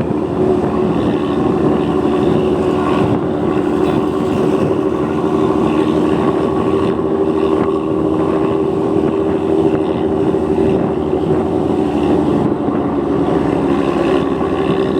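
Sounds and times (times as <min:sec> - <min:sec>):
motorcycle engine running steadily: 0:00.0 - 0:14.9.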